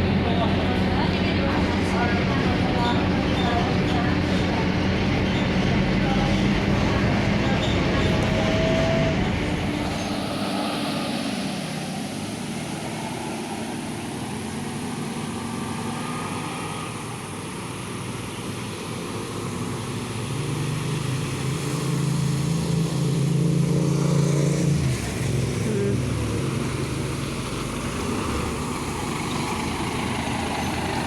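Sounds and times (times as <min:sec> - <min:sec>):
road noise: 0:00.0 - 0:31.0
vehicle engine running: 0:00.0 - 0:31.0.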